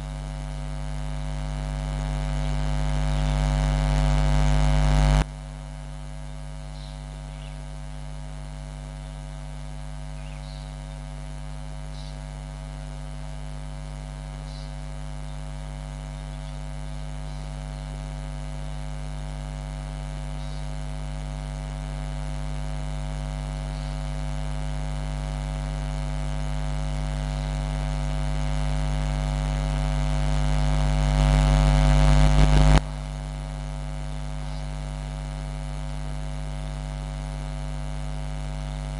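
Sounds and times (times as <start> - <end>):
buzzy electrical hum: 0.0 - 38.9.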